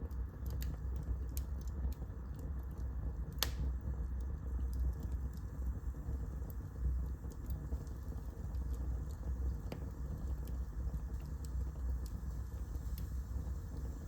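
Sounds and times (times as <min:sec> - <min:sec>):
fire pop: 0:00.0 - 0:14.0
fire rumbling: 0:00.0 - 0:14.0
wood fire crackling: 0:00.0 - 0:14.0.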